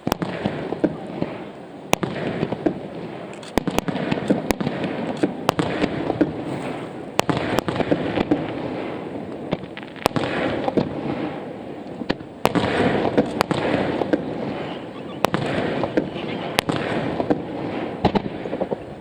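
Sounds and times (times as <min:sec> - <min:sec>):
fireworks bangs: 0:00.0 - 0:19.0
rumble of fireworks reports: 0:00.0 - 0:19.0.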